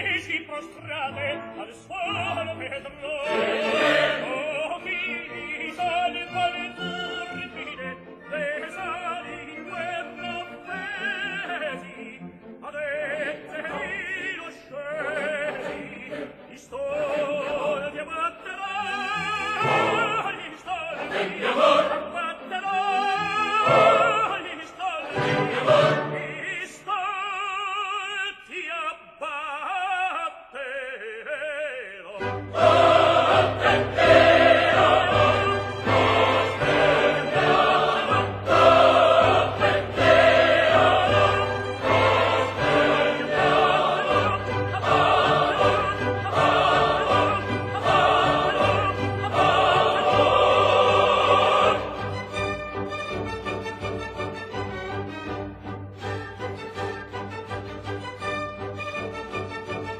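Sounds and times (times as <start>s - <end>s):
tenor singing opera: 0.0s - 55.0s
chorus singing: 0.0s - 55.1s
orchestra: 0.0s - 59.9s.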